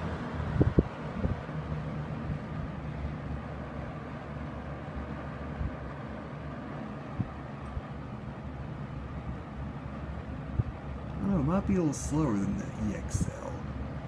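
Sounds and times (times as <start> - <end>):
box fan motor hum: 0.0 - 14.0.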